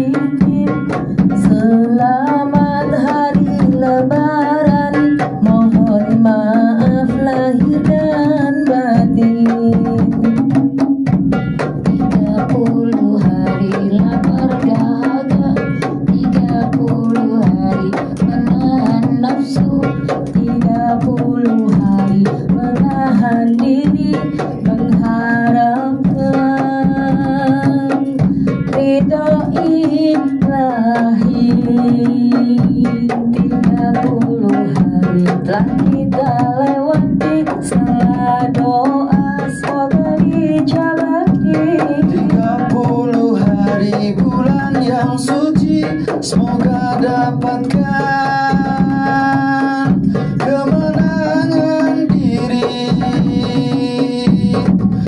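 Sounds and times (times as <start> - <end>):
group of voices singing: 0.0 - 11.0, 11.8 - 32.6, 33.4 - 55.0
frame drums: 0.0 - 55.0.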